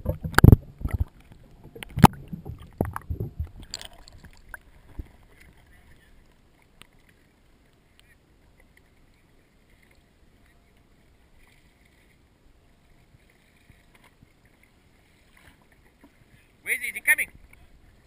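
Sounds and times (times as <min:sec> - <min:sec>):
faint water noise: 0:00.0 - 0:18.0.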